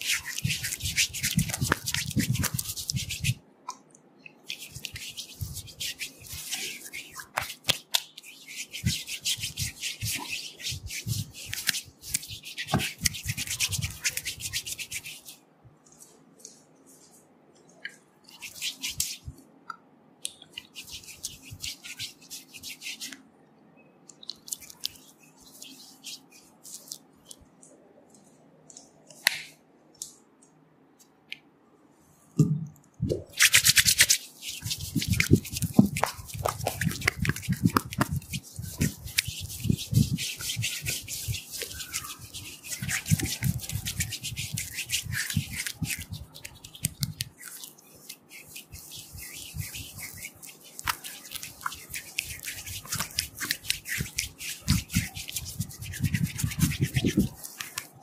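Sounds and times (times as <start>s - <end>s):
hand rubbing oiled skin: 0.0s - 3.4s, 4.4s - 19.4s, 20.5s - 23.2s, 24.1s - 28.8s, 33.0s - 58.0s.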